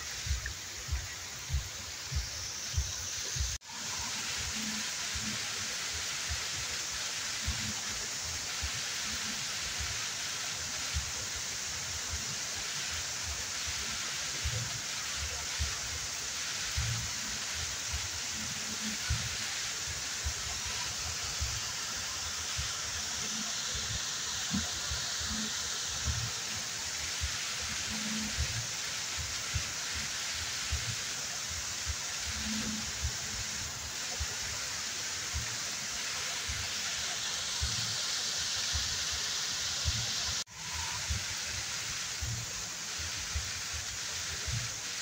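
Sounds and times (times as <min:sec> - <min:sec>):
waterfall rushing hiss: 0:00.0 - 0:45.0.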